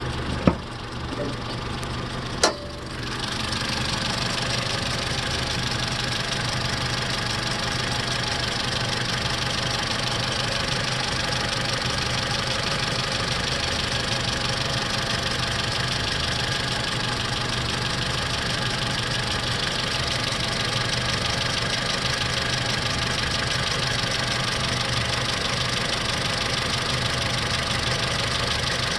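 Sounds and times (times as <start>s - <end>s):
car engine idling: 0.0s - 28.9s
engine ticking: 0.0s - 28.9s.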